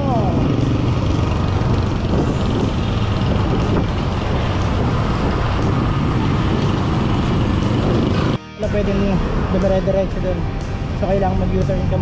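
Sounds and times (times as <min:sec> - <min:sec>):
passing truck engines: 0:00.0 - 0:12.0
road traffic noise: 0:00.0 - 0:12.0.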